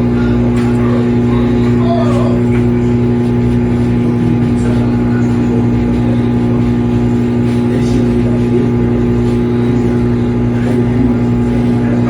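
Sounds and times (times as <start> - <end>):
appliance low hum: 0.0 - 12.0.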